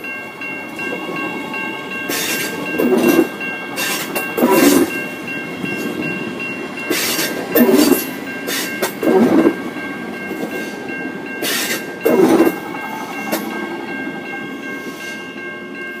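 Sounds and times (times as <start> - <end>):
train wheels clunking: 0.0 - 15.0
train rumble: 0.0 - 16.0.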